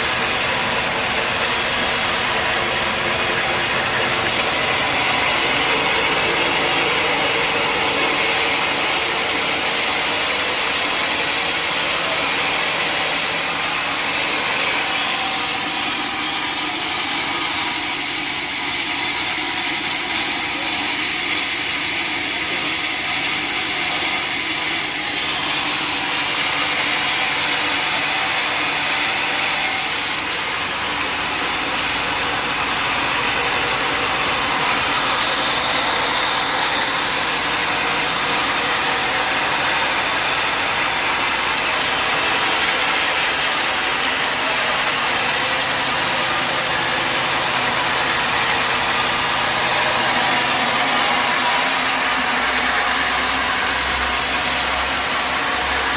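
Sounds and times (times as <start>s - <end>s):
mill engine running: 0.0s - 55.9s
saw blade cutting log: 0.0s - 55.9s.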